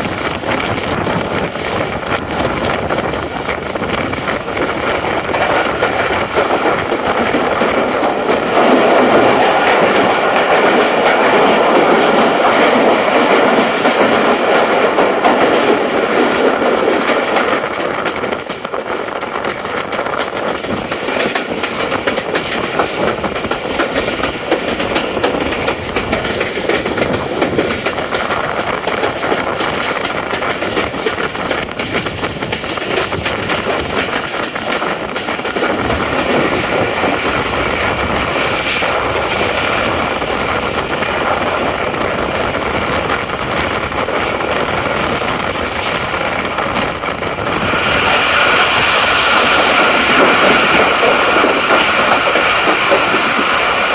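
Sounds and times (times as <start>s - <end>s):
train running noise: 0.0s - 53.9s
train wheels clattering over rail joints: 0.0s - 53.9s.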